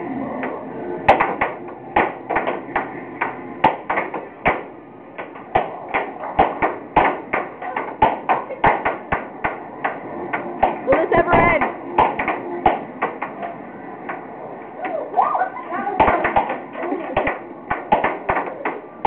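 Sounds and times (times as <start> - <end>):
steady hum: 0.0 - 19.0
air hockey puck clacking: 0.4 - 15.0, 15.8 - 19.0.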